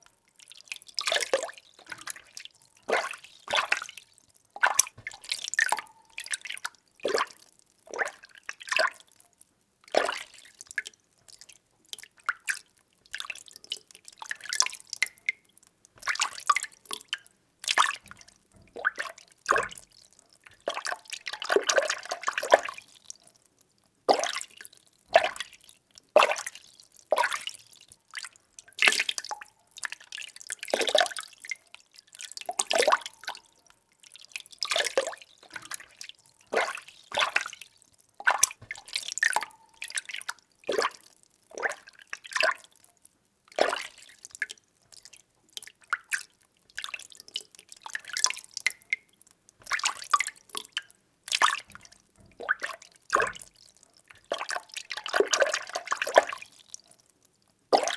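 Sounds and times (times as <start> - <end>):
water sloshing in a container: 0.0 - 9.2, 9.8 - 23.4, 24.0 - 57.1.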